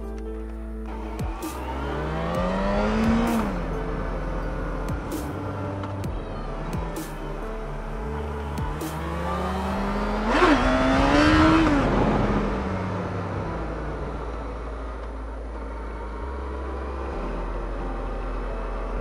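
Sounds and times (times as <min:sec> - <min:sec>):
motorcycle engine accelerating: 0:00.8 - 0:19.0.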